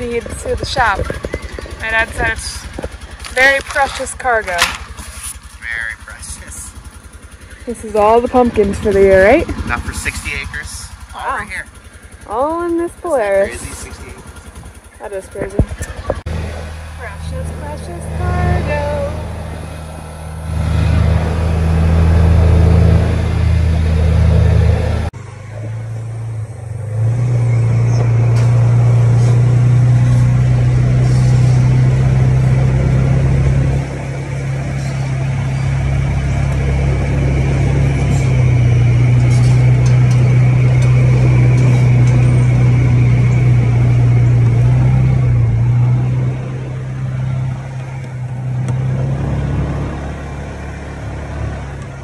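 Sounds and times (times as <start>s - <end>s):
utility vehicle engine droning: 0.0s - 52.0s.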